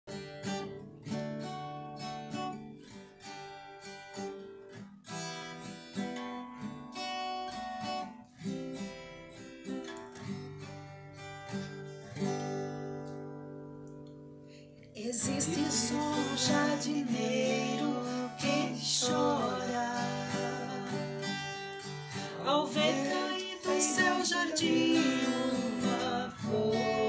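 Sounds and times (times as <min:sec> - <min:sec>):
acoustic guitar strumming: 0:00.1 - 0:27.0.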